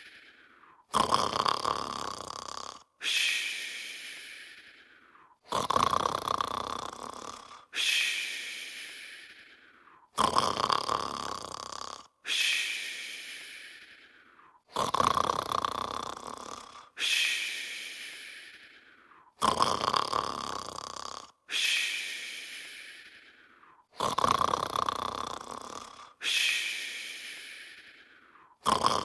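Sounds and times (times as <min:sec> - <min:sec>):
person snoring: 0:00.0 - 0:29.0.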